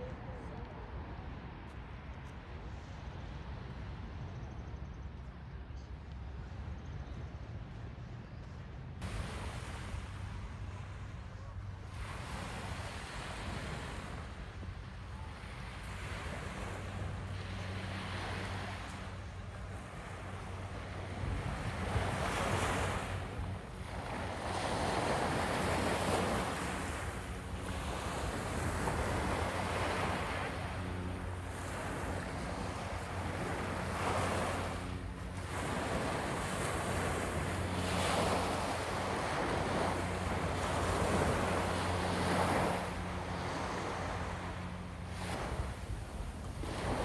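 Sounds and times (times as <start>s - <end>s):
wind rumbling on microphone: 0.0s - 47.0s
waves washing onto sandy beach: 9.0s - 47.0s.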